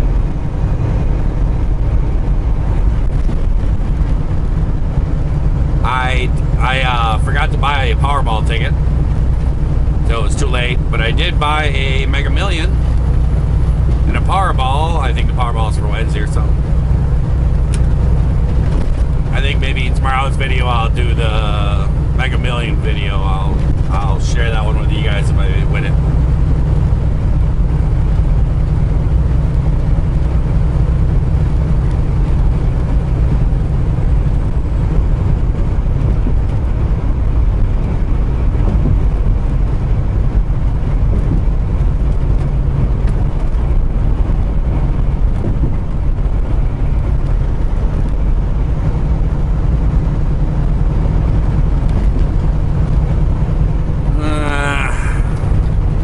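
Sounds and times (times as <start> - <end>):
diesel truck engine drone: 0.0 - 56.0
road noise: 0.0 - 56.0.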